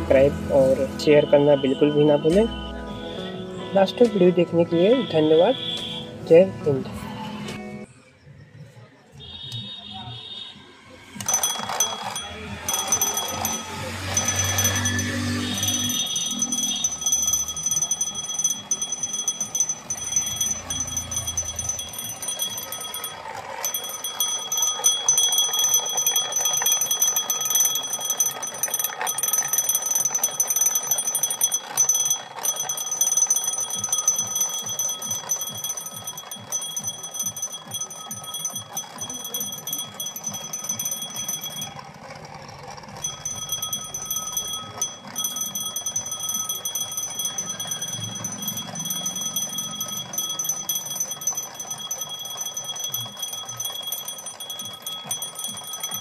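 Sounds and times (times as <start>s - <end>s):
alarm clock bells ringing: 11.1s - 56.0s.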